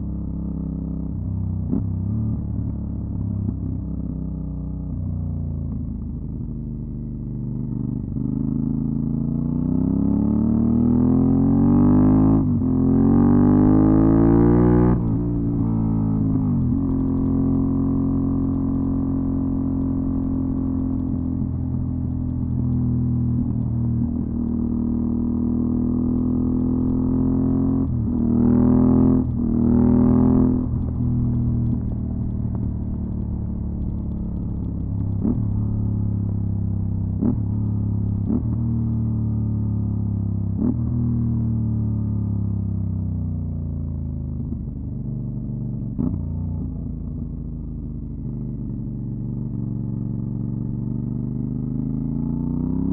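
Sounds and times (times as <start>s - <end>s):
motorcycle engine revving: 7.6s - 42.7s, 44.1s - 52.9s.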